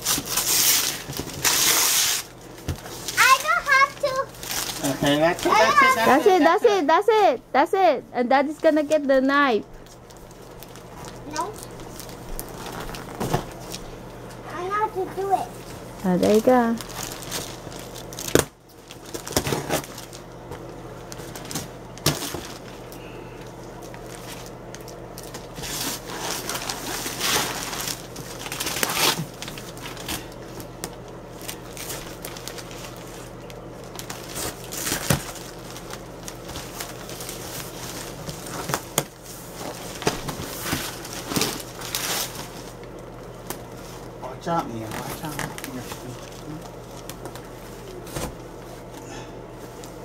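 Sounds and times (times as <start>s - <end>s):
wrapping paper tearing and crinkling: 0.0s - 6.5s, 9.8s - 14.0s, 14.6s - 20.4s, 21.0s - 48.9s.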